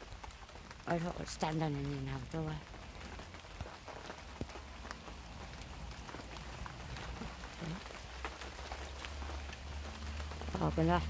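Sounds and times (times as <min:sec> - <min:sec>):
rain falling: 0:00.0 - 0:11.0
raindrop hits: 0:00.0 - 0:11.0.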